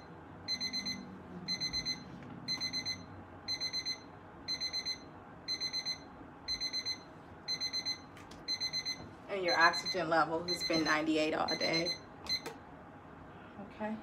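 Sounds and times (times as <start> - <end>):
electronic alarm beeping: 0.0 - 12.5.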